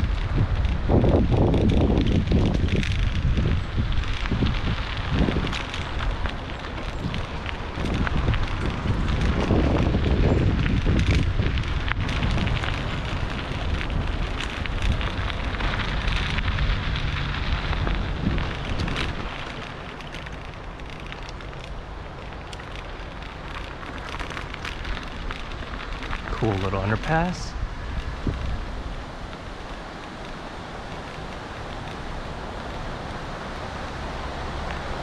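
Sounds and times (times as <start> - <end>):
bicycle tyres crunching on gravel: 0.0 - 35.0
wind noise on microphone: 0.0 - 35.0.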